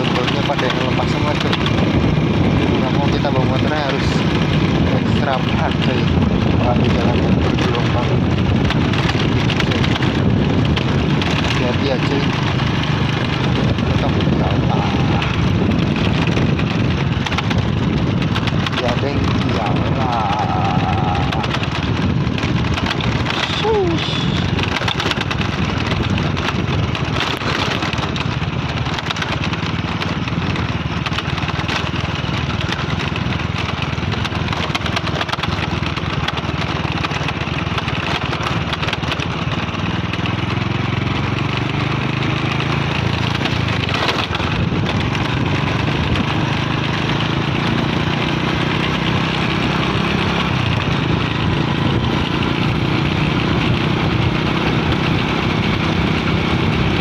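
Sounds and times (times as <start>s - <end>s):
crackly rattling noise: 0.0s - 53.8s
small motorcycle engine running: 0.0s - 57.0s.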